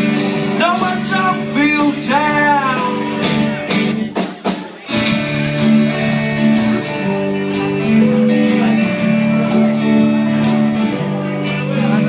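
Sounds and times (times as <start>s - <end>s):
guitar chords: 0.0s - 12.0s
live rock band playing: 0.0s - 12.0s.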